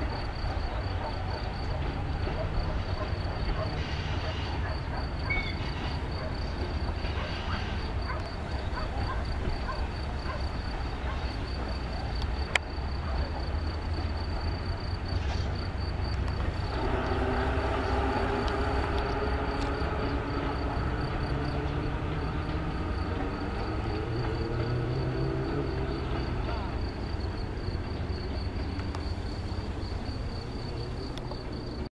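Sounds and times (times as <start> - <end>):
electric train whine: 0.0 - 31.9
train wheels rumbling on rails: 0.0 - 31.9.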